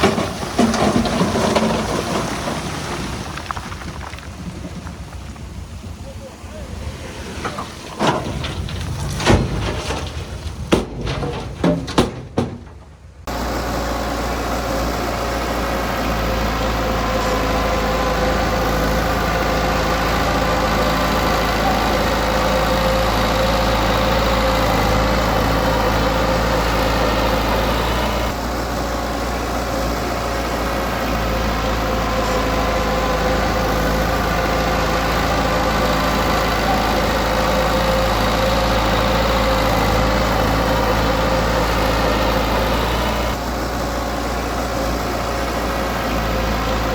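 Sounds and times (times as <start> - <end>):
heavy equipment diesel engine running: 0.0 - 4.0, 5.1 - 46.9.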